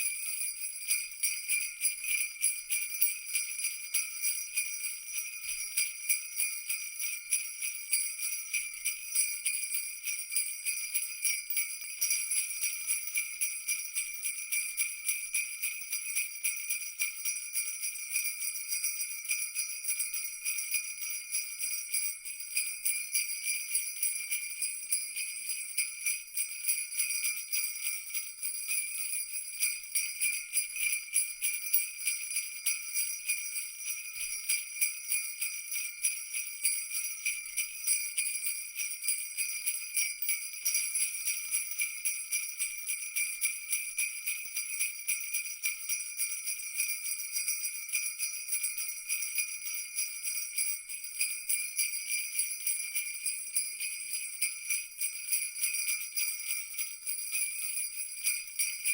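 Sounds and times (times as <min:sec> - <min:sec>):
jingle bells shaken: 0:00.0 - 0:58.9.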